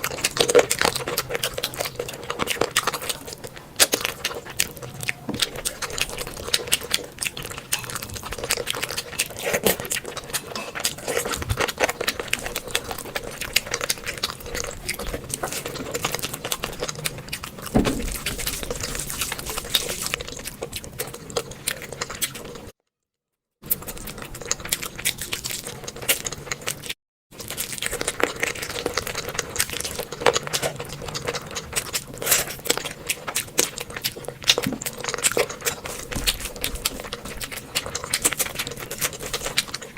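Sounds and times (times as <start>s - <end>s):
wet chewing and smacking: 0.0s - 22.7s, 23.6s - 39.9s.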